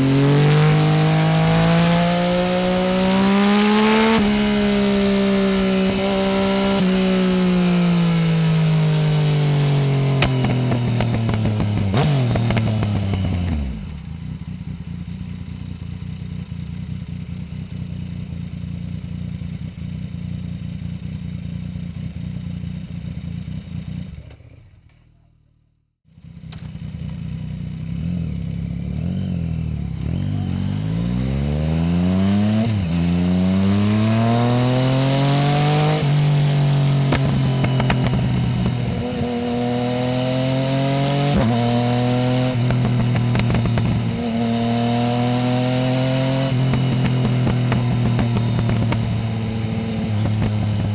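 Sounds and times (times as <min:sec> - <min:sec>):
motorcycle engine revving and idling: 0:00.0 - 0:25.2, 0:26.1 - 0:50.9.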